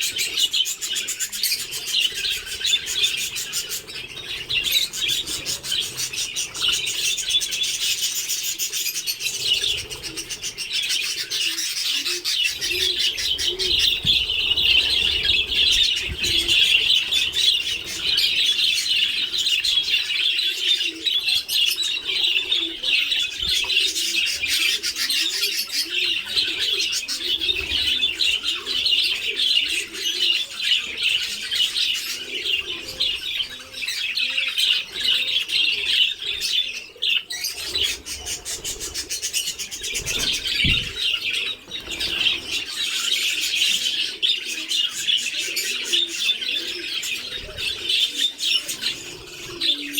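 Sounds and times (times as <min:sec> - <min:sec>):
budgerigars chattering and chirping: 0:00.0 - 0:49.9.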